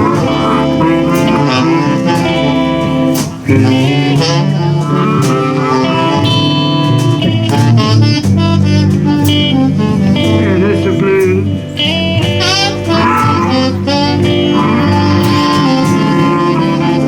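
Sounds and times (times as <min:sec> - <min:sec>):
bass: 0:00.0 - 0:17.0
drums: 0:00.0 - 0:17.0
electric guitars: 0:00.0 - 0:17.0
saxophone: 0:00.0 - 0:17.0.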